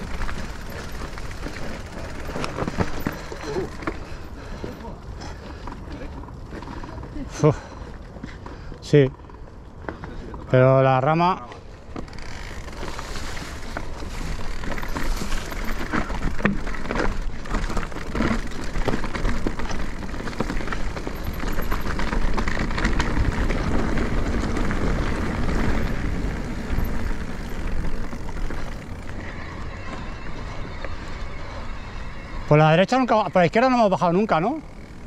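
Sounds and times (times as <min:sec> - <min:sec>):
bike clattering and rattling: 0:00.0 - 0:35.0
bike tyre noise: 0:00.0 - 0:35.0.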